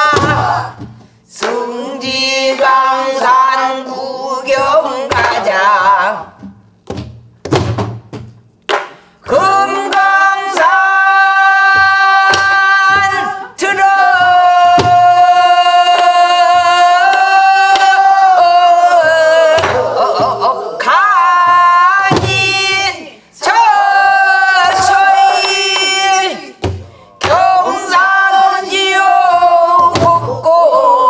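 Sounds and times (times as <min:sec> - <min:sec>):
woman singing in strong voice: 0:00.0 - 0:06.4, 0:09.2 - 0:31.0.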